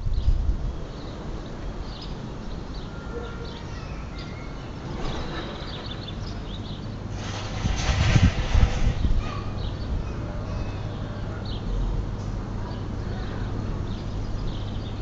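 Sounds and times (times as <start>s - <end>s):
small birds chirping: 0.0s - 7.2s, 8.9s - 15.0s
city background rumble: 0.0s - 15.0s.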